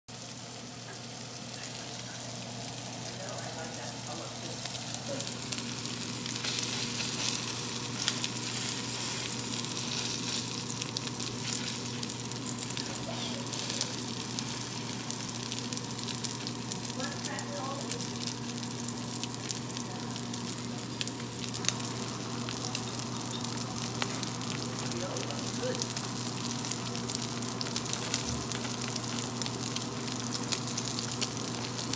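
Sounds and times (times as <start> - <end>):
steak sizzling in a skillet: 0.1 - 31.9.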